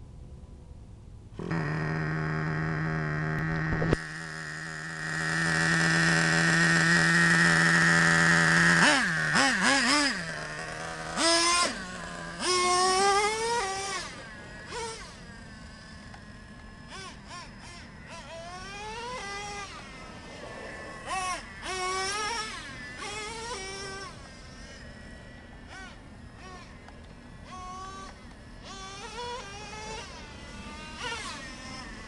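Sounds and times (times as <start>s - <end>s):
rc truck engine revving: 1.4s - 32.0s.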